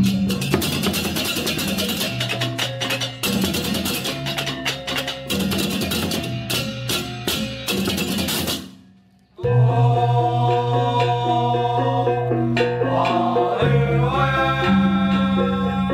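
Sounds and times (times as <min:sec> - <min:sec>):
music with drum beat: 0:00.0 - 0:08.8, 0:09.8 - 0:15.9
music with held notes: 0:00.0 - 0:15.9.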